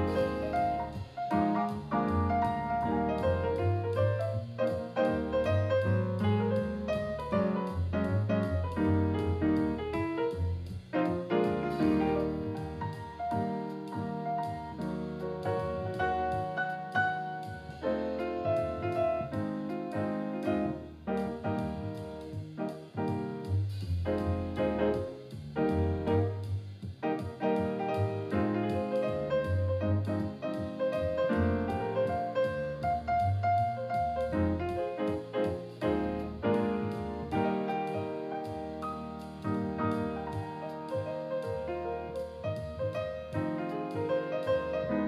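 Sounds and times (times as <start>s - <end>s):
solo jazz piano: 0.0s - 45.0s.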